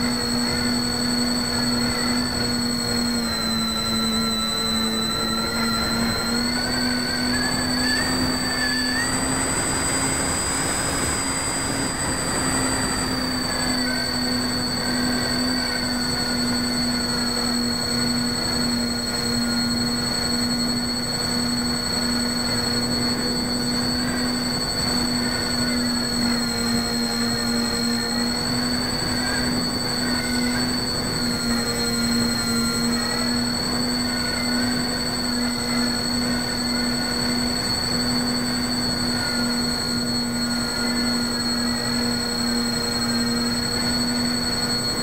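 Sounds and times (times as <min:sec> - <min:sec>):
model plane motors whining: 0:00.0 - 0:45.0.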